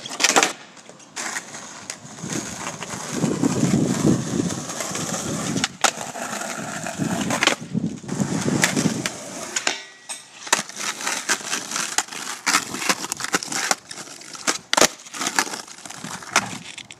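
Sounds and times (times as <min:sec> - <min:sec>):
skateboard deck clacking: 0:00.0 - 0:16.9
skateboard wheels rolling on asphalt: 0:00.0 - 0:16.9.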